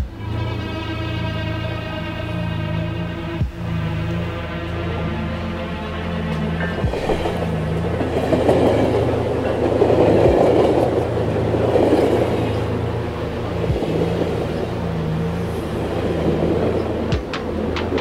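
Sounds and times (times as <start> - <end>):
low steady drone: 0.0 - 18.0
train rumbling on rails: 0.0 - 18.0.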